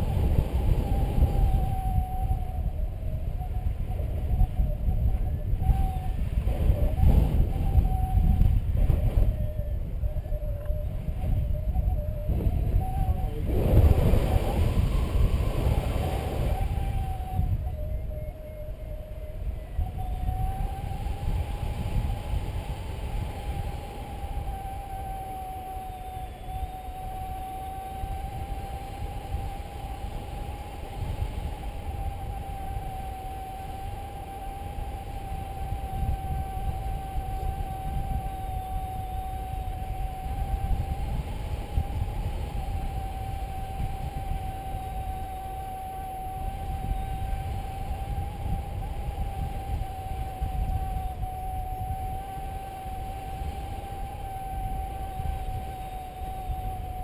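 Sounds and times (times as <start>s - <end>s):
variometer electronic tone: 0.0s - 57.0s
wind rumbling on microphone: 0.0s - 57.0s.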